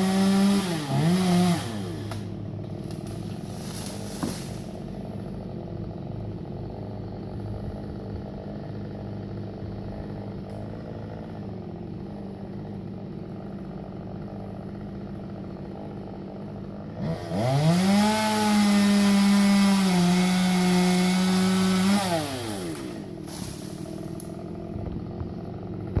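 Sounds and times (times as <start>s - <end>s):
chainsaw idling and revving: 0.0s - 26.0s.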